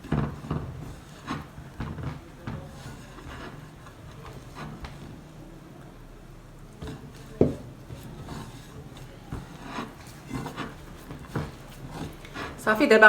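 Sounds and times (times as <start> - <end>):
hands rubbing pastry dough: 0.0 - 13.0.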